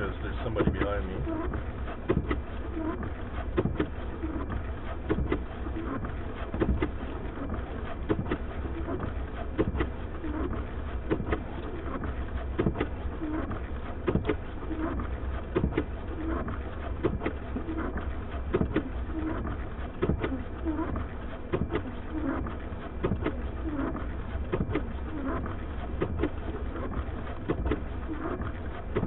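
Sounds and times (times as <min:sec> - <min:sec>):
car engine idling: 0:00.0 - 0:29.0
windshield wipers sweeping: 0:00.0 - 0:29.0
wiper knock: 0:00.0 - 0:29.0.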